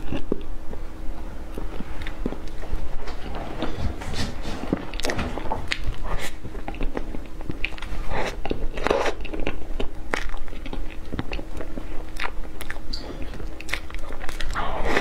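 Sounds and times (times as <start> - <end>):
person chewing: 0.0 - 2.9, 4.9 - 15.0.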